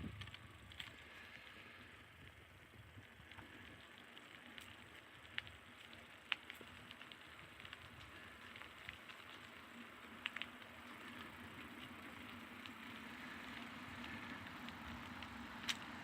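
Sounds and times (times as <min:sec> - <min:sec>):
bicycle rolling hiss: 0:00.0 - 0:16.0
small ticks and clicks: 0:00.0 - 0:16.0.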